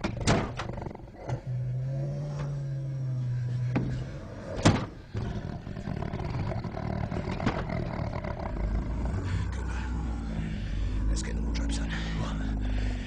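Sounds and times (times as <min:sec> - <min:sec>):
low steady drone: 0:00.6 - 0:13.0.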